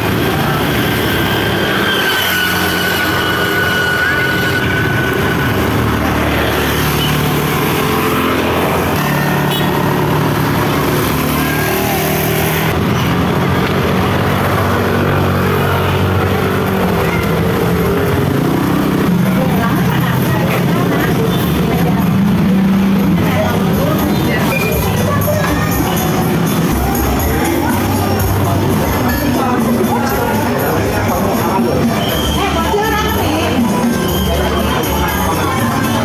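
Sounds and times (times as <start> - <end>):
motorcycles and scooters passing: 0.0 - 36.0.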